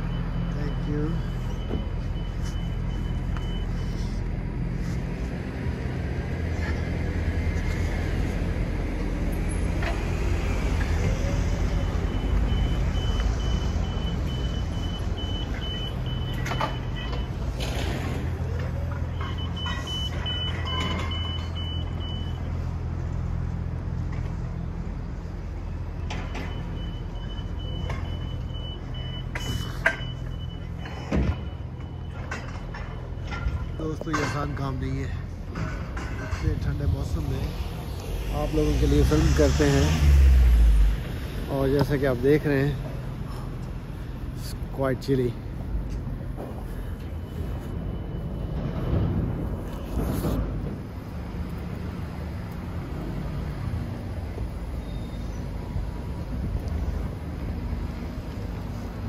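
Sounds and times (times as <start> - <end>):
street traffic engine hum: 0.0 - 59.0.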